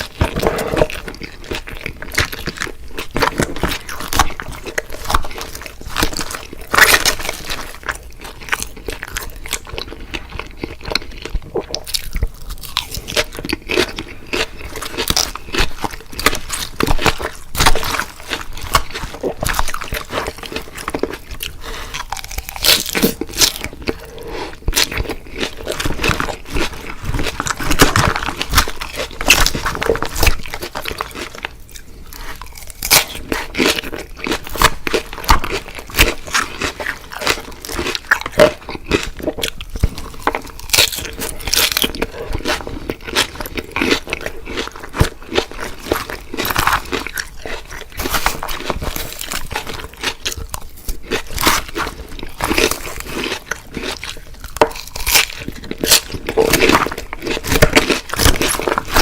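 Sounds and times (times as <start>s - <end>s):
crunchy bites and chewing: 0.0s - 59.0s.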